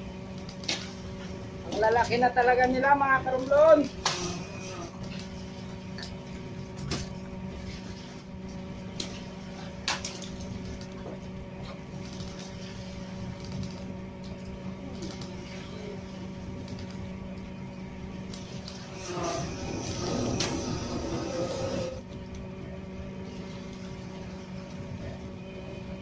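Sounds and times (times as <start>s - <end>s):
boat machinery humming: 0.0s - 26.0s.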